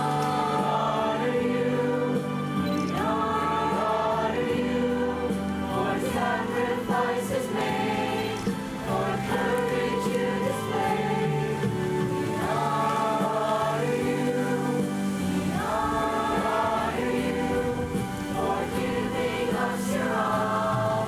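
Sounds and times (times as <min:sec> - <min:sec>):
choir singing in parts: 0:00.0 - 0:21.0.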